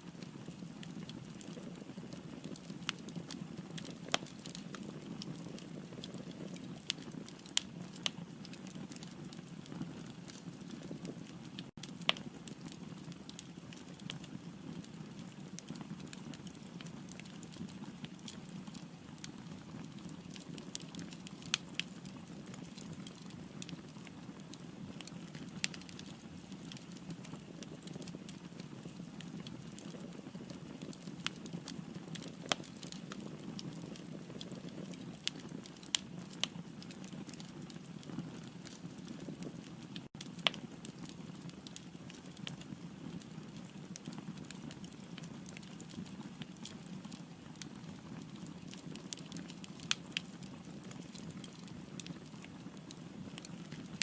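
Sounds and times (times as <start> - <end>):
firewood crackling and popping: 0.1 - 54.0.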